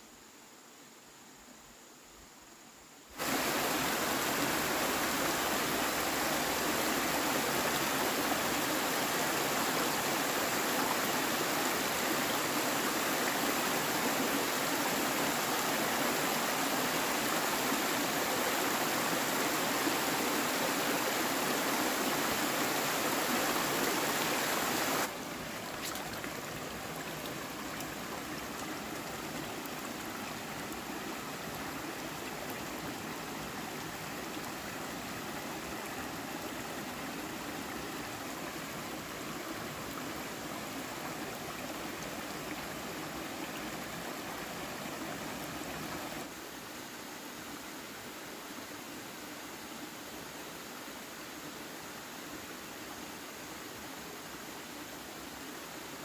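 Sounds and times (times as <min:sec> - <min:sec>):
stream water rushing: 0:02.8 - 0:56.0.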